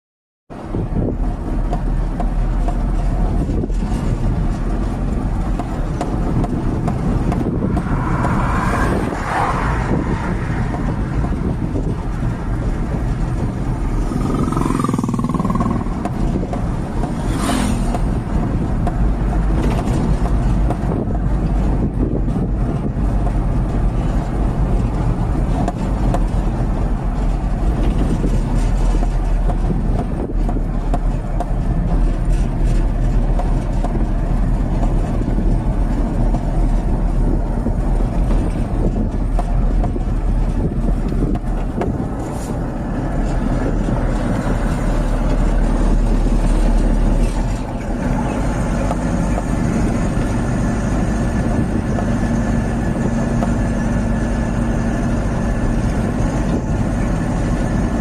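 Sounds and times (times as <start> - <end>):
road noise: 0.5 - 58.0
vehicle engine rumbling: 0.5 - 58.0.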